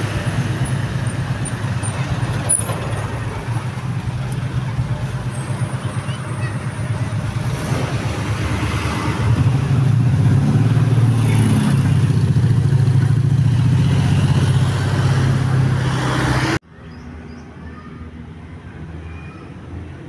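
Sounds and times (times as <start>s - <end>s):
bus diesel engine running: 0.0s - 16.6s.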